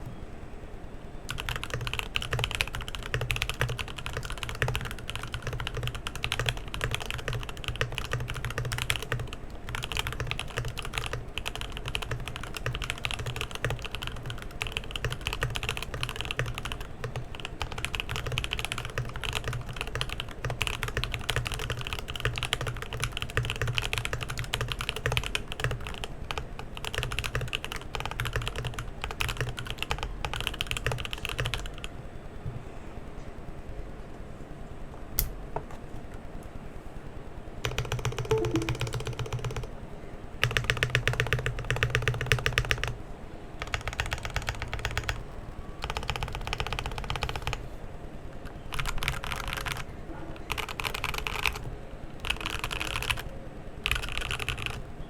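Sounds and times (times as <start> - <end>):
fast typing on mechanical keyboard: 1.3 - 31.9, 37.6 - 39.8, 40.4 - 43.0, 43.6 - 47.6, 48.4 - 54.9.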